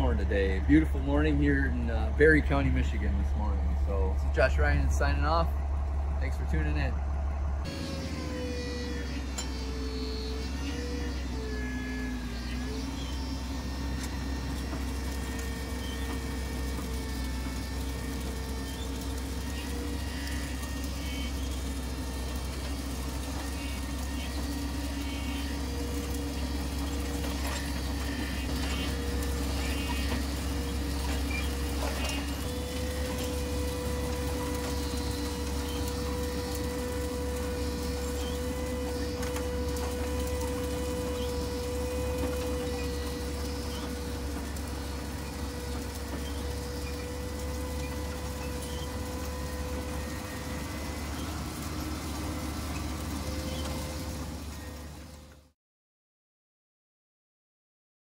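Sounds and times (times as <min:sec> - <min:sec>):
wavering whine: 0:00.0 - 0:55.3
tractor machinery drone: 0:00.0 - 0:55.6.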